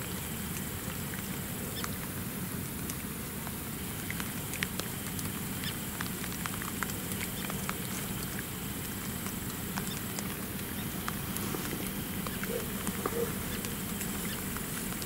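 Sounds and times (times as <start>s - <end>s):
faint ticks and clicks: 0.0s - 15.0s
outdoor background hiss: 0.0s - 15.0s.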